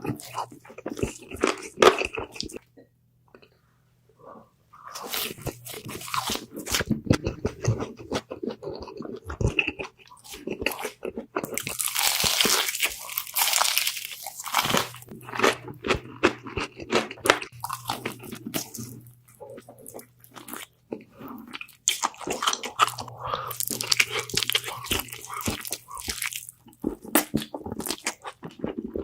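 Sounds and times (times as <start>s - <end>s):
crunching and chewing crispy food: 0.0s - 2.6s, 4.9s - 29.0s.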